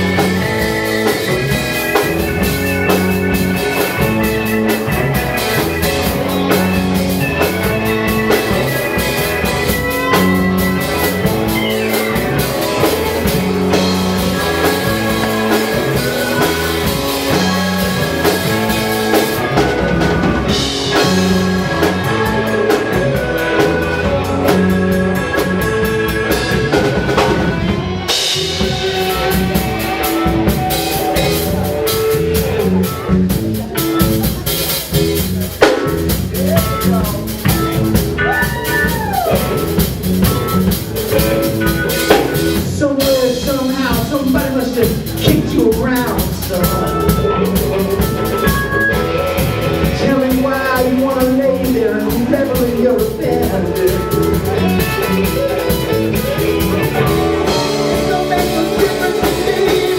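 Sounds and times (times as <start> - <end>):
rock band playing: 0.0 - 59.9.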